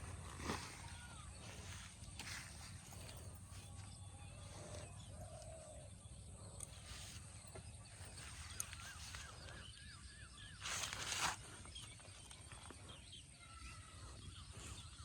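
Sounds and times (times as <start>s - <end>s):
bird chirping: 0.0s - 15.0s
birds calling: 0.0s - 15.0s.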